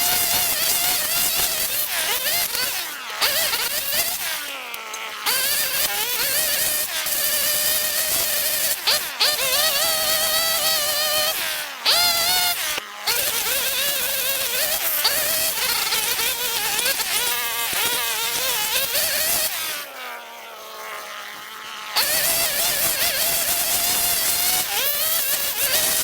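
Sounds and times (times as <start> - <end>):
string trimmer motor buzzing: 0.0 - 26.0.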